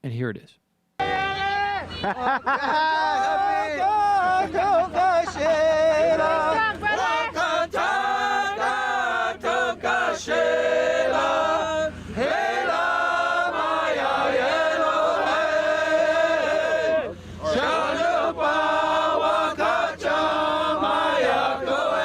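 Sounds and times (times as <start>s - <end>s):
voices chanting: 1.0s - 22.0s.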